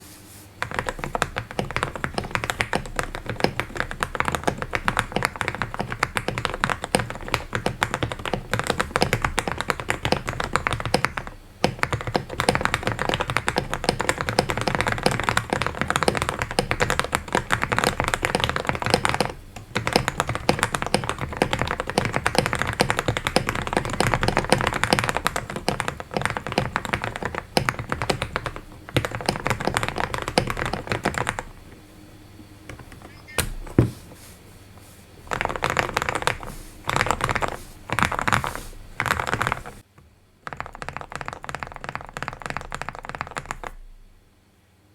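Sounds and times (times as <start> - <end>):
mechanical keyboard typing: 0.6 - 31.8, 32.7 - 34.0, 35.2 - 43.9.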